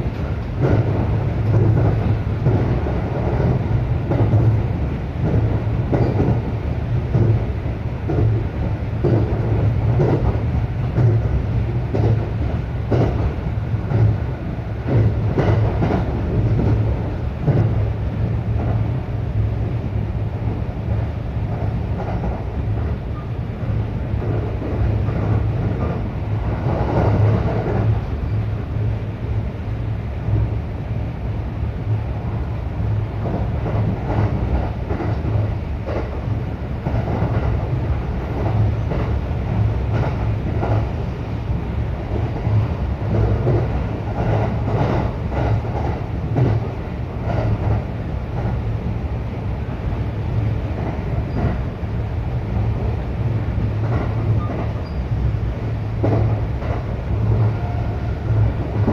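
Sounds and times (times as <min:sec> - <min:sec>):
train rumbling inside carriage: 0:00.0 - 0:58.9.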